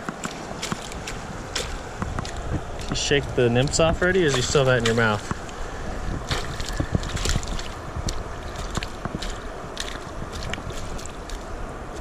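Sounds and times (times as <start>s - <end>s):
flowing river water: 0.0s - 12.0s
wind on microphone: 0.0s - 12.0s.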